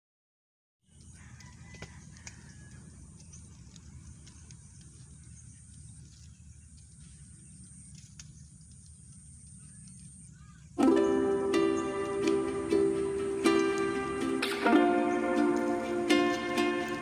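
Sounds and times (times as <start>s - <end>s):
bird chirp: 0.8s - 17.0s.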